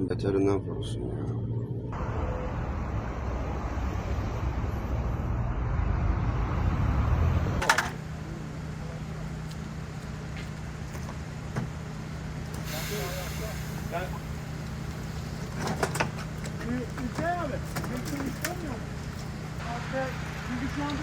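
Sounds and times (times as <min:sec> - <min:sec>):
steady engine hum: 0:00.0 - 0:21.0
vehicle low rumble: 0:00.0 - 0:21.0.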